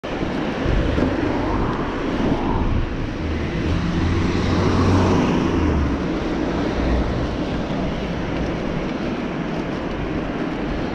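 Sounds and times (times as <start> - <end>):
road noise rumble: 0.0 - 10.9
wind on microphone: 0.0 - 10.9.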